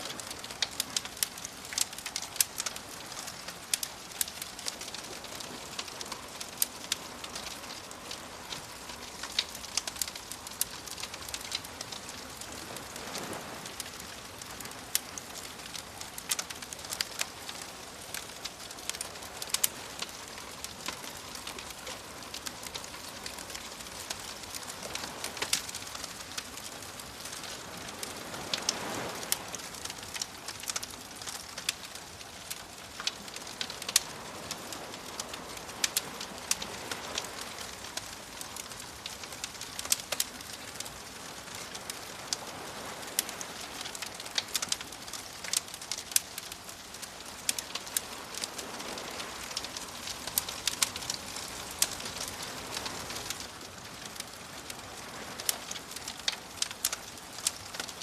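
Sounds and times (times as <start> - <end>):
waves washing: 0.0 - 58.0
wood fire crackling and popping: 0.0 - 58.0.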